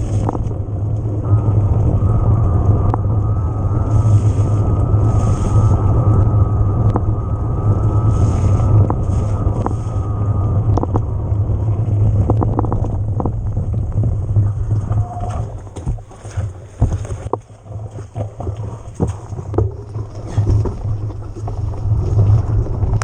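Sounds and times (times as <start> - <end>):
tyres rolling over rough ground: 0.0 - 23.0
wind on microphone: 0.0 - 23.0.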